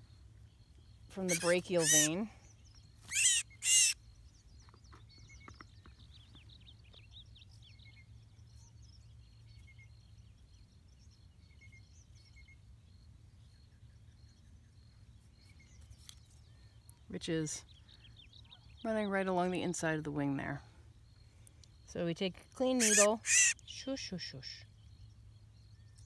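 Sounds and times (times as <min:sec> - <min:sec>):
faint bird chirps: 0:00.0 - 0:19.3, 0:20.3 - 0:26.0.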